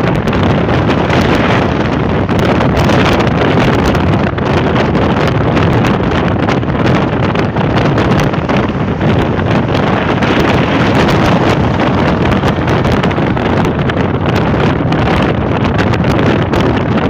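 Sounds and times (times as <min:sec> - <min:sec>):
car road and engine noise: 0:00.0 - 0:17.0
wind buffeting microphone: 0:00.0 - 0:17.0.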